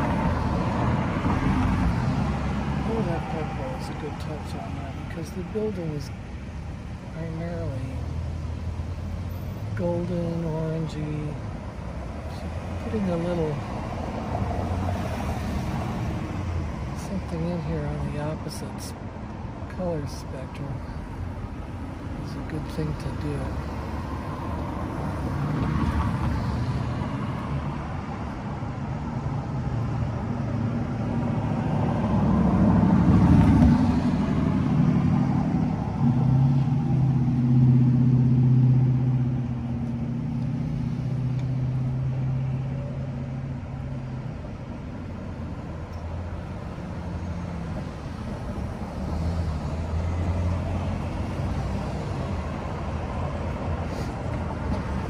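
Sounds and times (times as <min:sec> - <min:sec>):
cars driving past: 0:00.0 - 0:55.0
low engine hum: 0:00.0 - 0:55.0.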